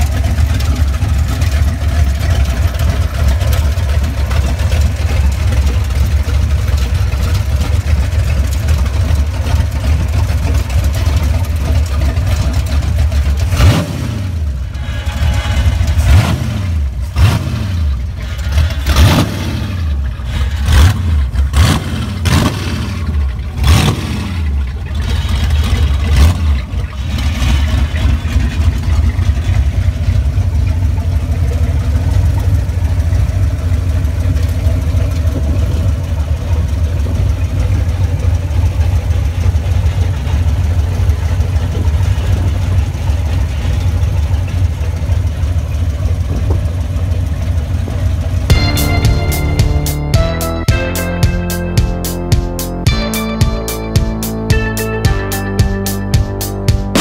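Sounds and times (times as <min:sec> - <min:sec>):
car engine revving and idling: 0:00.0 - 0:57.0.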